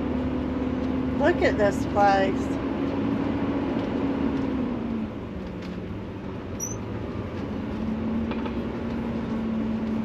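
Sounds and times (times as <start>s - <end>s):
motorhome engine drone: 0.0s - 10.0s.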